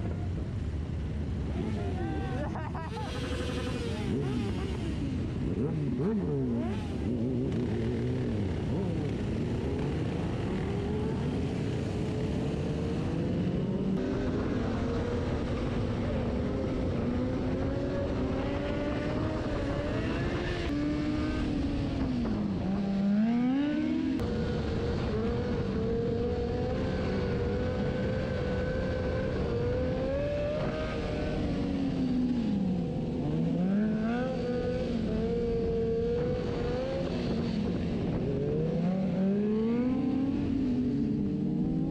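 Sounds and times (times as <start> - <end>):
motorcycle engines revving: 0.0 - 41.9.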